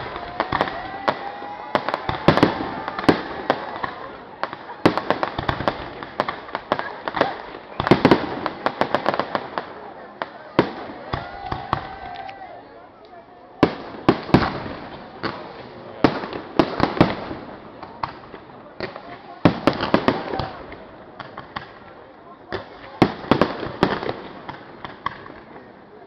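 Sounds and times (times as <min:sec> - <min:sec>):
fireworks banging and crackling: 0:00.0 - 0:12.4, 0:13.6 - 0:26.0.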